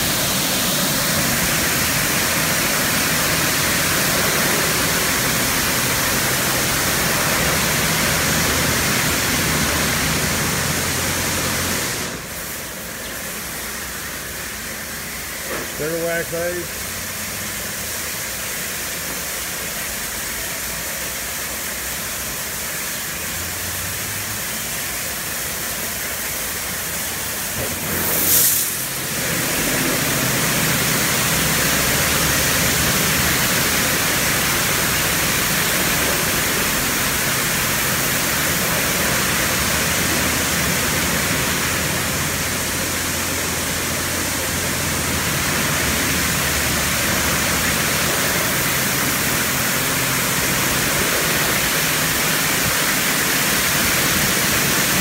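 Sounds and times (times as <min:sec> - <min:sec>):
car wash water spray hissing: 0:00.0 - 0:55.0.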